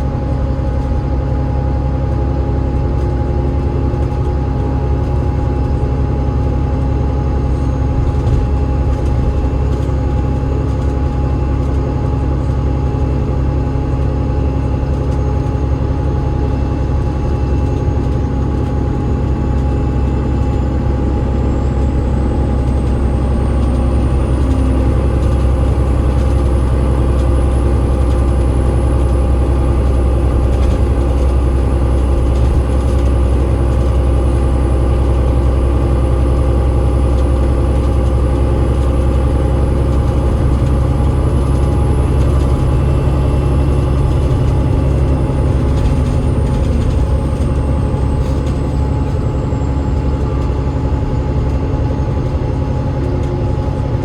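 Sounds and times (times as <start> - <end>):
bus engine rumble from inside: 0.0 - 54.0.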